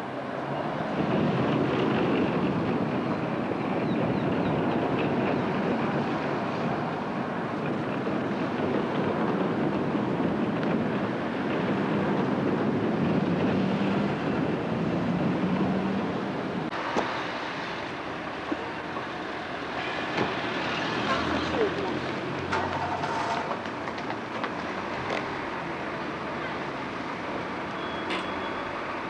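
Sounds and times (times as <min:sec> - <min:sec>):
bus engine: 0:00.0 - 0:29.0
road traffic rumble: 0:00.0 - 0:29.0.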